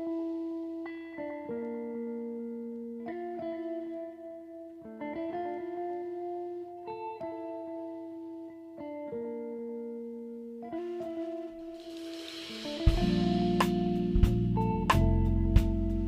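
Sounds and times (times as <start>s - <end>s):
plucked chords instrumental music: 0.0s - 16.0s.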